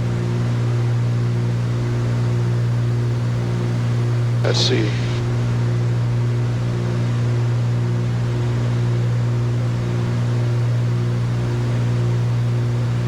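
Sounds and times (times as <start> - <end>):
aircraft engines droning in cockpit: 0.0 - 13.0.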